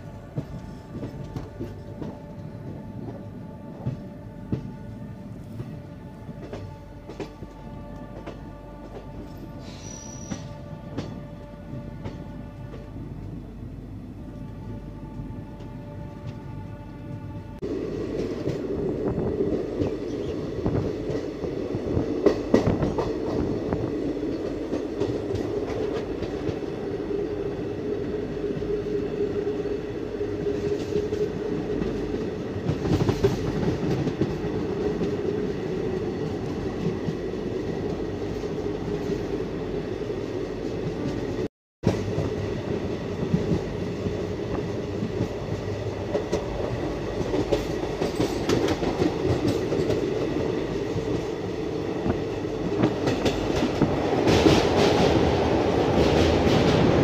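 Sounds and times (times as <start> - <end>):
clickety-clack of rail joints: 0.0 - 13.4, 14.3 - 27.5, 30.3 - 39.6, 40.2 - 57.0
train wheels rumbling on rails: 0.0 - 57.0.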